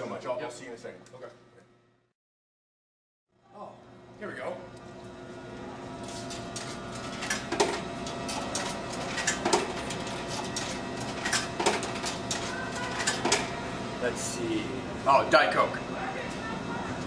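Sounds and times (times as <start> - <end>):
vending machine humming: 3.3 - 17.0.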